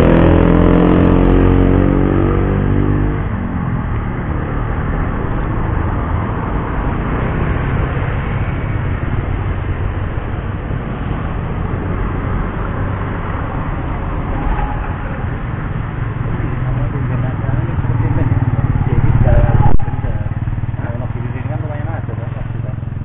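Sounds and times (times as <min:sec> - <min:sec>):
car engines: 0:00.0 - 0:23.0
motorcycle engines: 0:00.0 - 0:23.0.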